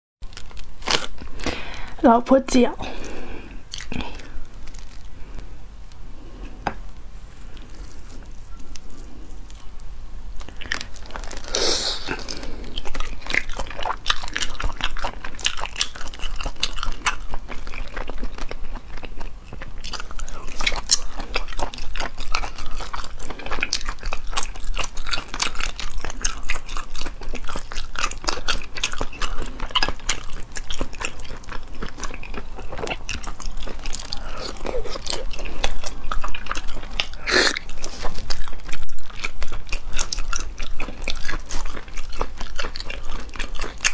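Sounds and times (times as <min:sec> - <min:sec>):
chewing and wet mouth sounds: 0:00.2 - 0:43.9.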